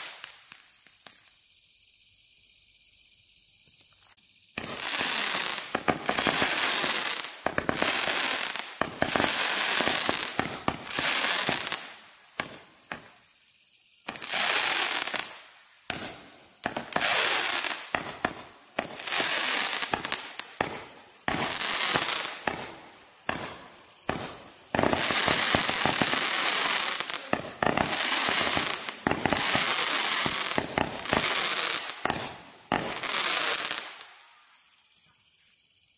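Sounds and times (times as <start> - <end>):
fireworks bursts hissing and crackling: 0.0 - 35.9.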